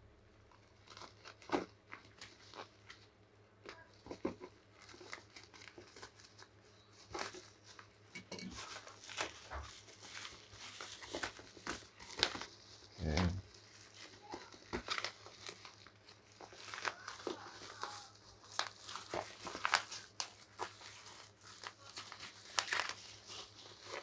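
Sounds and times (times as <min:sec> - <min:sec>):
plastic packaging crinkling: 0:00.5 - 0:03.1, 0:03.7 - 0:24.0.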